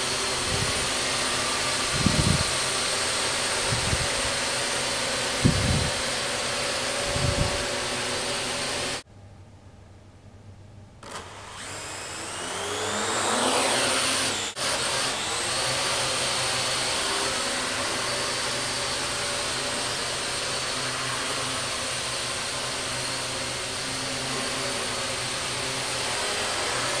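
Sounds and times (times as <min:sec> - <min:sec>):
drone rotors whining and buzzing: 0:00.0 - 0:09.0, 0:11.0 - 0:27.0.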